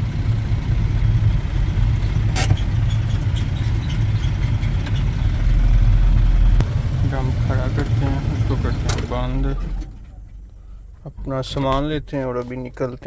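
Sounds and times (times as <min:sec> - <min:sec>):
truck engine idling: 0:00.0 - 0:12.2.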